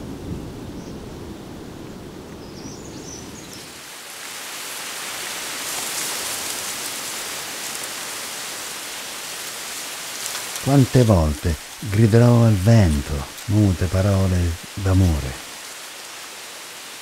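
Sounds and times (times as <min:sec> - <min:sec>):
rain hissing: 0:03.2 - 0:17.0.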